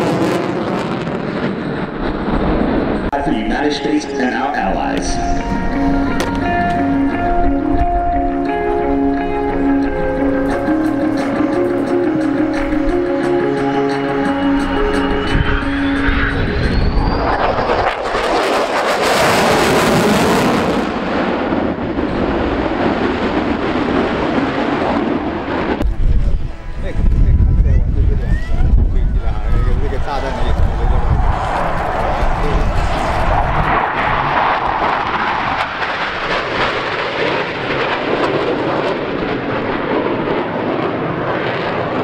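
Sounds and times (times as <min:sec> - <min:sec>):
military jet passing: 0:00.0 - 0:42.0.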